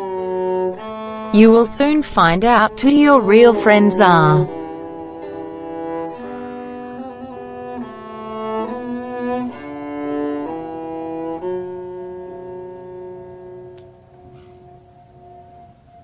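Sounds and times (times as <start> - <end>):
slow bowed string melody: 0.0 - 15.9.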